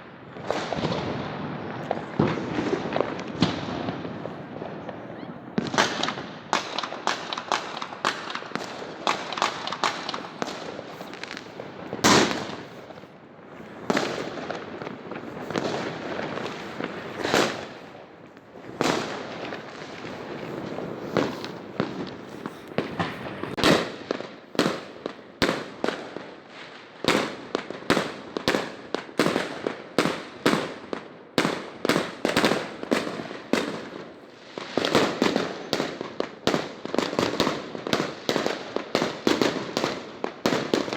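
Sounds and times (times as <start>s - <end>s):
fireworks booms: 0.0s - 26.3s, 27.0s - 40.9s
fireworks bangs and crackles: 0.0s - 40.9s.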